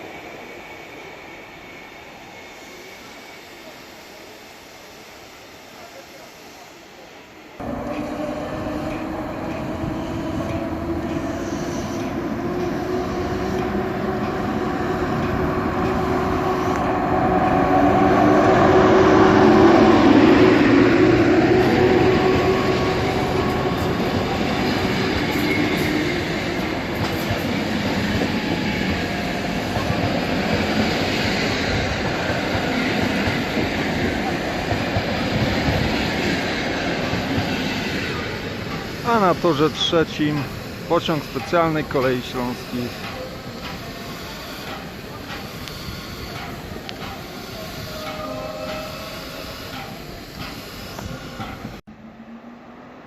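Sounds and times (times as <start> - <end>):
electric train motors humming: 0.0 - 52.4
wheels on rails: 7.6 - 51.8.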